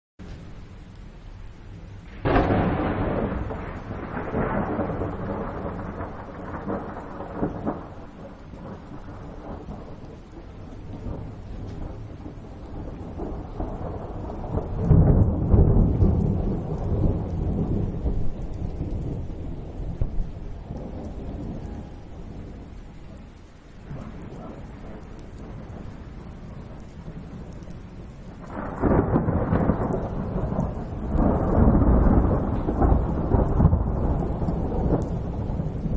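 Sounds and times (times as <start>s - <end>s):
rain hissing: 0.2s - 35.9s
thunder rumbling: 0.2s - 35.9s.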